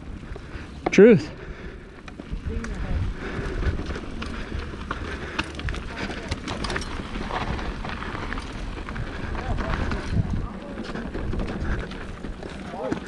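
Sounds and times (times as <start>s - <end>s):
bike rolling over dirt trail: 0.0s - 13.0s
bike clicks and rattles: 0.1s - 13.0s.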